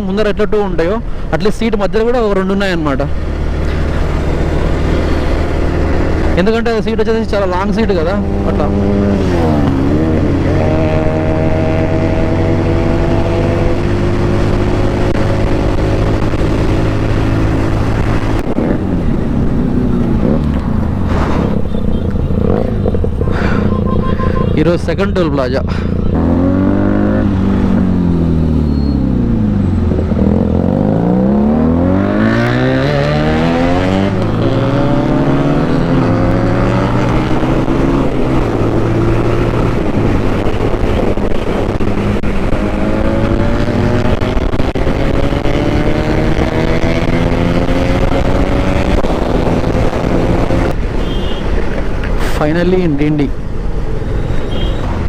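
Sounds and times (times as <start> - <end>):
motorcycle engine accelerating: 3.1 - 50.9.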